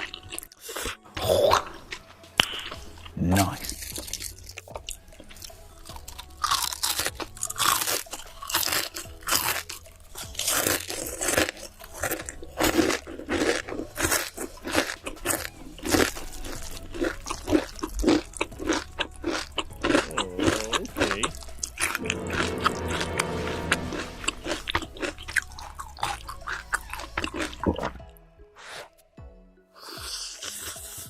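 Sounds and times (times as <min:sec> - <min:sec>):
person chewing crunchy food: 0:00.0 - 0:28.0, 0:29.8 - 0:31.0.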